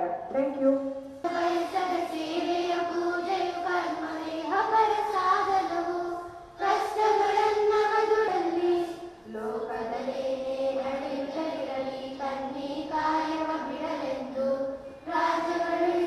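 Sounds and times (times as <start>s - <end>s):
children singing in unison: 1.1s - 16.0s.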